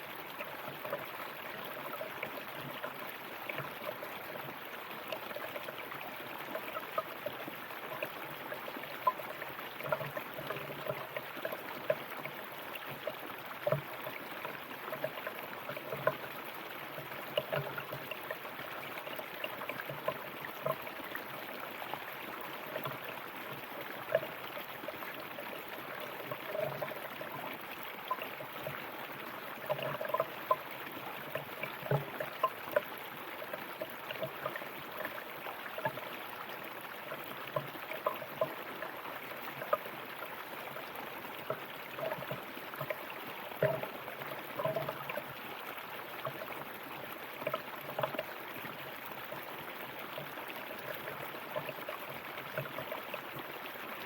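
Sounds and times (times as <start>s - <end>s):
river water over rocks: 0.0s - 54.0s.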